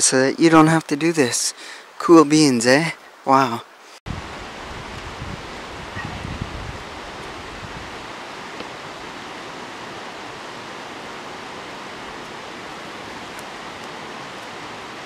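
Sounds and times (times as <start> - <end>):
creek and waterfall rushing: 0.0 - 15.0.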